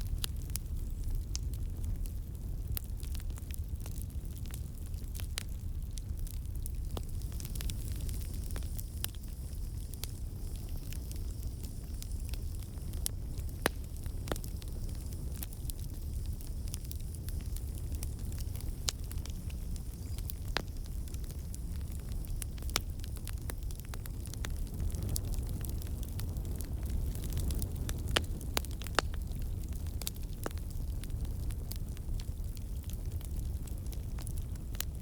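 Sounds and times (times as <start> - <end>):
campfire burning: 0.0 - 35.0
wood crackling and popping: 0.0 - 35.0.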